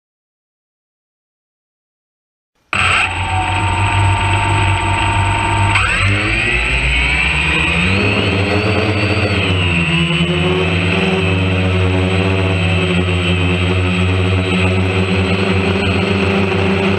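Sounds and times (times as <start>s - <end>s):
drone propellers whining: 2.7s - 16.9s.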